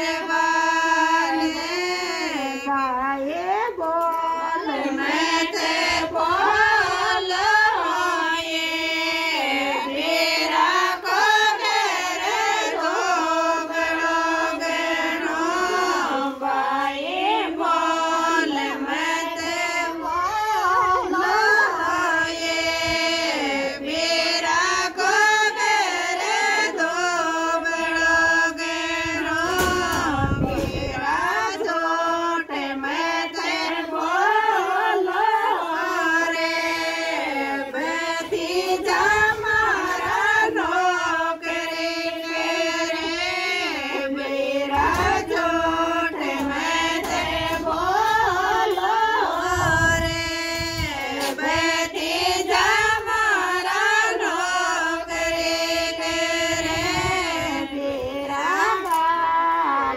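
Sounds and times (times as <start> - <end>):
women singing together: 0.0 - 59.9.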